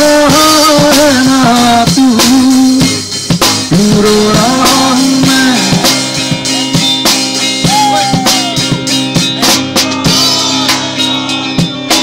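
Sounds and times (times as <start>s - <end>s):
drum kit beat with cymbals: 0.0s - 12.0s
electric guitar: 0.0s - 12.0s.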